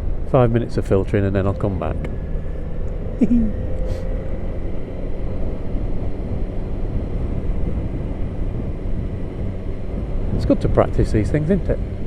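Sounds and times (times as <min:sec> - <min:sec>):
motorcycle engine running: 0:00.0 - 0:12.0
wind noise: 0:00.0 - 0:12.0.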